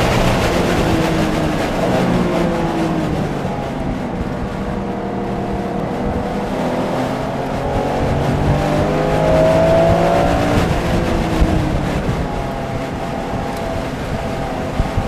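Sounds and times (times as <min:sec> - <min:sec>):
car engine accelerating: 0:00.0 - 0:15.0
road and wind noise: 0:00.0 - 0:15.0.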